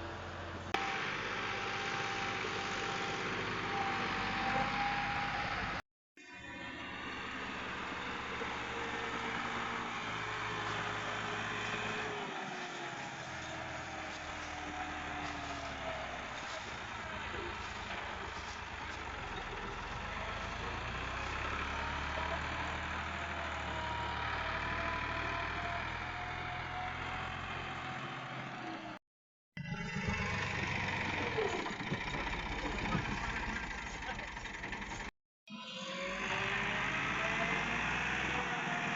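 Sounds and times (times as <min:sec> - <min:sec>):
tractor engine running: 0:00.0 - 0:05.8, 0:06.8 - 0:28.9, 0:29.6 - 0:35.1.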